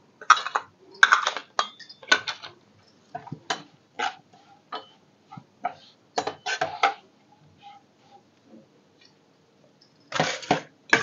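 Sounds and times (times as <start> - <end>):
spoon scraping a pan: 0.2 - 8.4, 10.1 - 11.0.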